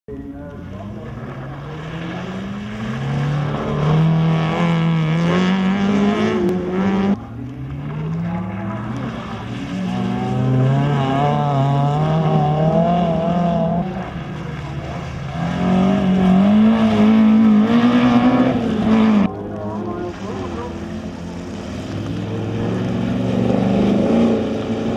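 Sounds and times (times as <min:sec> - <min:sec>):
rally car engines revving hard: 0:00.2 - 0:24.9.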